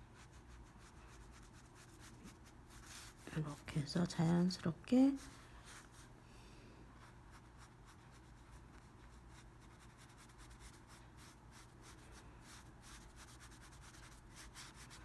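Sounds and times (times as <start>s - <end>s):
wet brush rubbing on paper: 0.0s - 6.1s, 7.0s - 15.0s.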